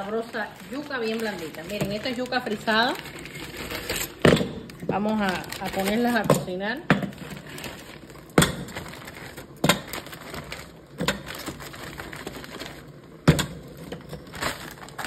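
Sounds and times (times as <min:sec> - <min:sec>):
frozen chunks clunking into pot: 0:00.0 - 0:15.0.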